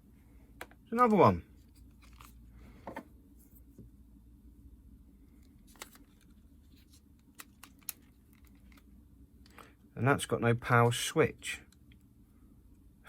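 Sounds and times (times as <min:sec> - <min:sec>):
quiet low hum: 0:00.0 - 0:13.0.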